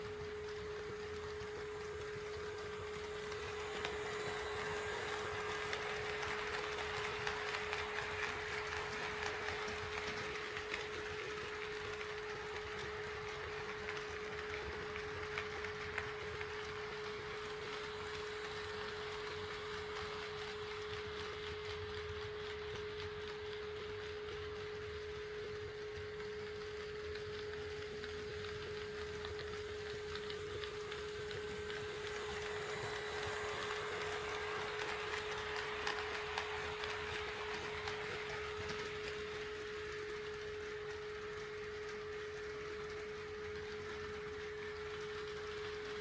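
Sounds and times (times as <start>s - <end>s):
model train motor humming: 0.0s - 22.0s, 27.6s - 46.0s
faint clicks from track: 0.0s - 46.0s.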